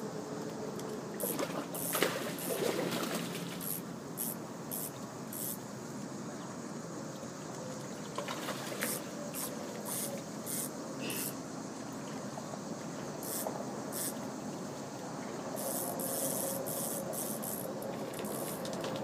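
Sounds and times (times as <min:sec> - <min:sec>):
insects chirping: 0:00.0 - 0:19.0
steady hiss: 0:01.2 - 0:07.4, 0:08.7 - 0:19.0.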